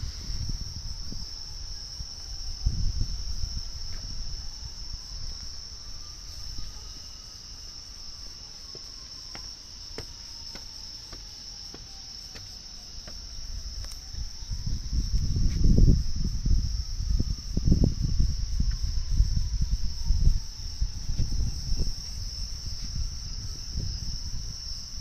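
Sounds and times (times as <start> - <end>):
distant tornado siren: 0.0 - 24.9
crickets and insects trilling: 0.0 - 25.0.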